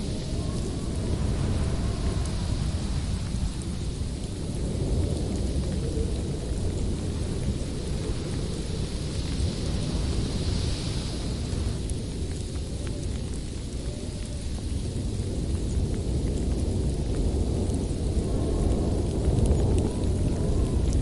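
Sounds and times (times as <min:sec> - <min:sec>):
strong wind gusting: 0:00.0 - 0:21.0.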